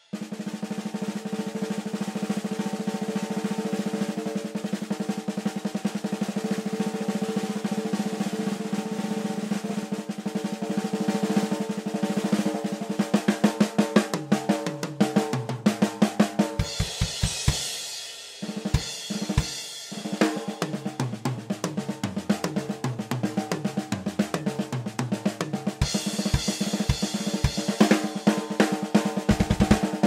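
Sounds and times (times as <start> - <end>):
snare drum and tom fills: 0.0 - 30.0.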